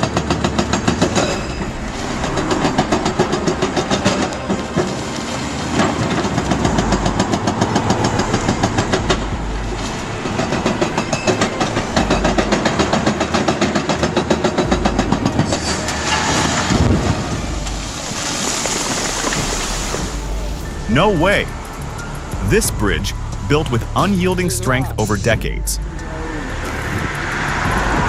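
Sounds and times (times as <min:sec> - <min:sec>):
heavy engine pulsing: 0:00.0 - 0:28.0.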